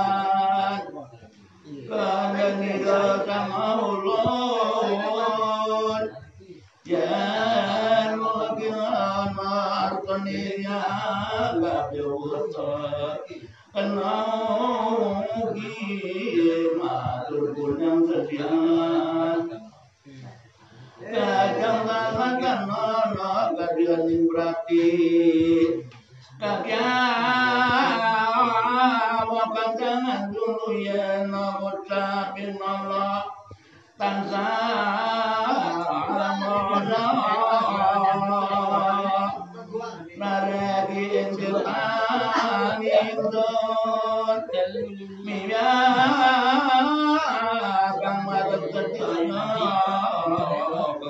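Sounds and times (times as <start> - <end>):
man chanting melismatically: 0.0 - 51.0.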